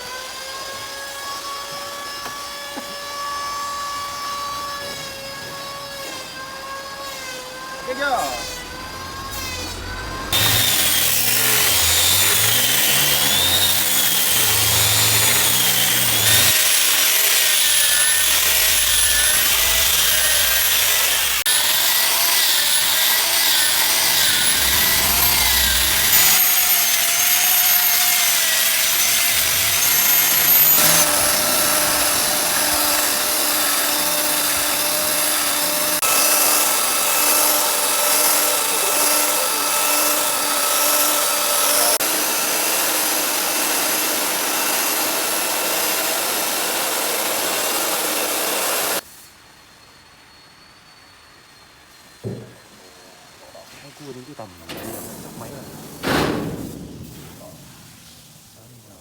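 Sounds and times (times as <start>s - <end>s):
power tool whining on hardwood: 0.0s - 49.0s.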